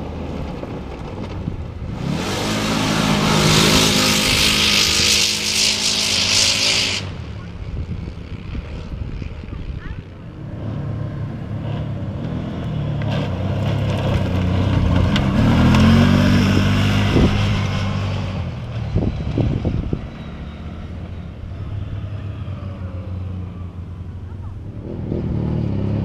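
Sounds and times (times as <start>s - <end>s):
racing atv engine passing: 0.0s - 26.0s.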